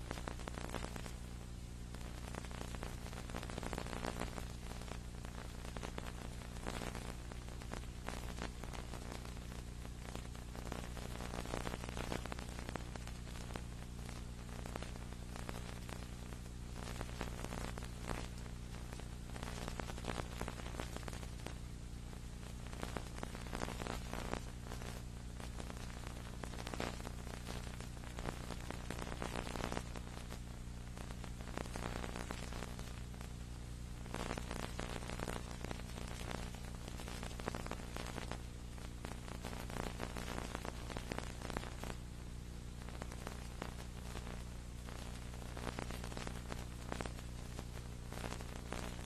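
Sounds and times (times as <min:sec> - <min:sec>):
crackling static: 0:00.0 - 0:49.0
electrical hum: 0:00.0 - 0:49.0.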